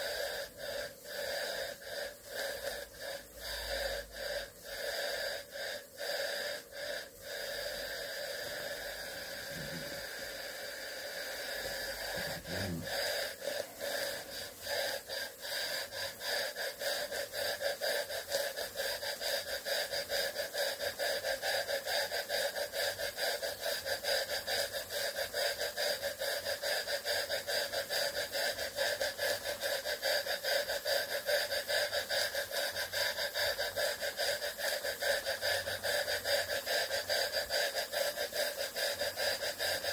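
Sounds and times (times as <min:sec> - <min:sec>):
steady steam hiss: 0:00.0 - 0:39.9
steam engine exhaust chuffing: 0:00.0 - 0:39.9.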